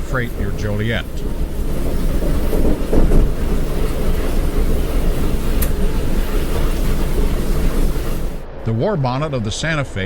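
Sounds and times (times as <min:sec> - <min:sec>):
wind buffeting microphone: 0:00.0 - 0:09.8
train rumbling: 0:00.0 - 0:10.0.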